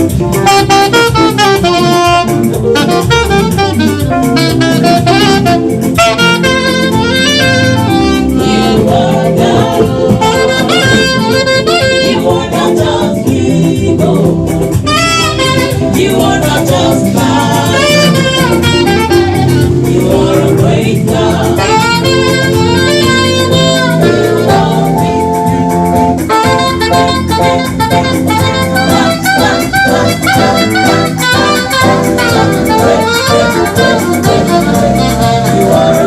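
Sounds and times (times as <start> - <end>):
backing band with drum kit: 0.0 - 36.0
saxophone melody: 0.0 - 36.0.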